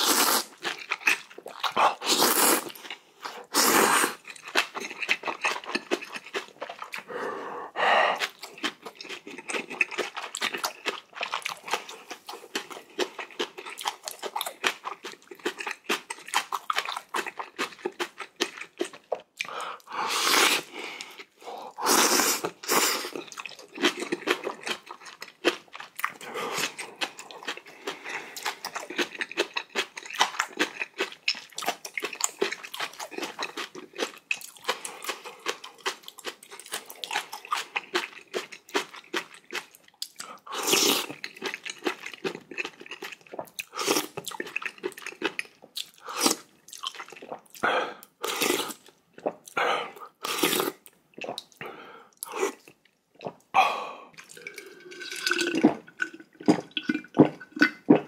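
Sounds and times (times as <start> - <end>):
person chewing and crunching: 0.0 - 7.1, 8.0 - 58.0.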